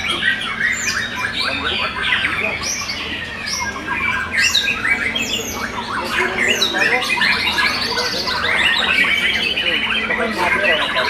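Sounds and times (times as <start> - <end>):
birds singing whistled notes: 0.0 - 11.0.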